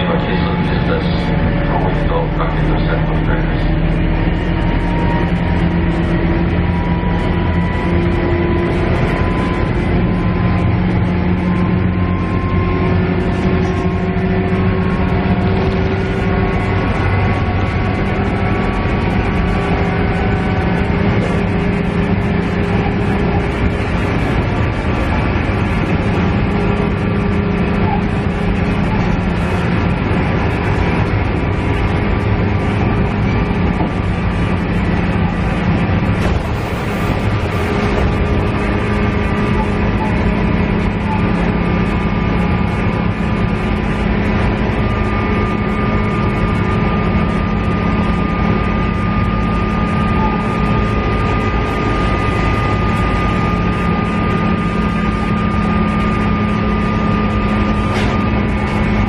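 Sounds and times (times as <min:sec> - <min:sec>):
diesel engine drone: 0:00.0 - 0:59.0
transmission whine: 0:00.0 - 0:59.0
wheel on rail rumble: 0:00.0 - 0:59.0.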